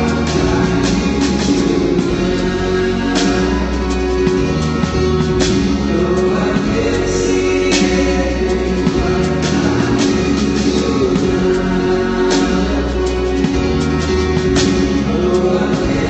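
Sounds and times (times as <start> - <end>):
live rock band through pa: 0.0 - 16.0
person singing: 0.0 - 16.0.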